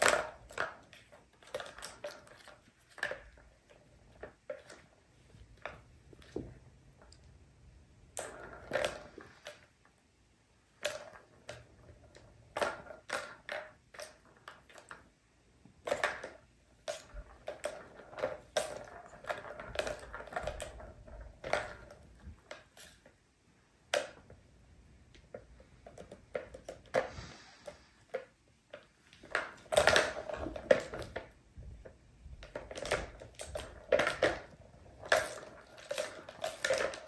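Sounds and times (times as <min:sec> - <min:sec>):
balls rattling in plastic tracks: 0:00.0 - 0:07.4, 0:08.0 - 0:37.0.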